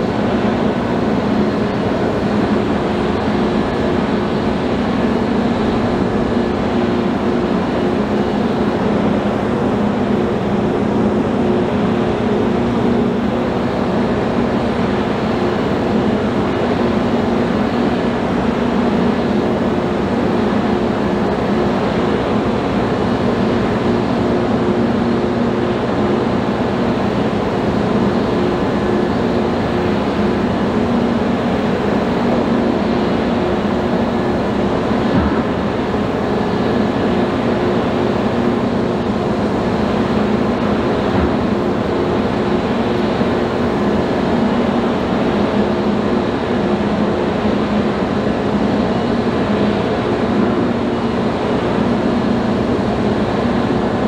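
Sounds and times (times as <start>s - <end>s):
ferry engines droning hum: 0.0s - 54.0s.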